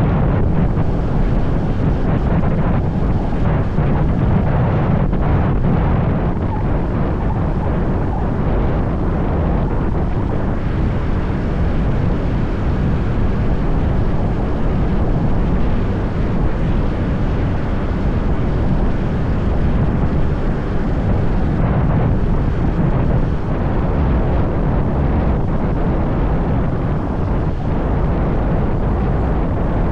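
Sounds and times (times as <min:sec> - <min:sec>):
motorbike road noise: 0:00.0 - 0:29.9
wind buffeting microphone: 0:00.0 - 0:29.9
wind rush: 0:00.0 - 0:29.9.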